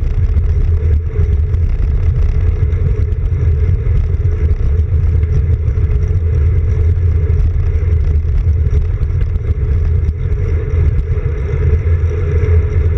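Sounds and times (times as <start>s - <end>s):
wind and road vibration rumble: 0.0s - 12.9s.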